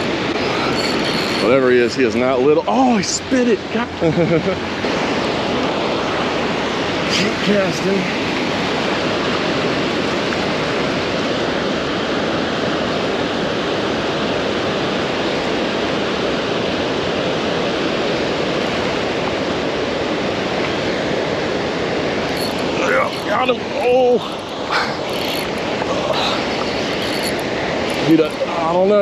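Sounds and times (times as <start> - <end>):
water rushing through spillway: 0.0 - 29.0.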